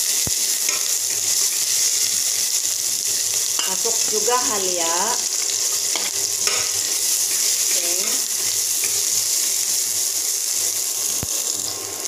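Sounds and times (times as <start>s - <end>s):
garlic sizzling in a pot: 0.0s - 12.0s.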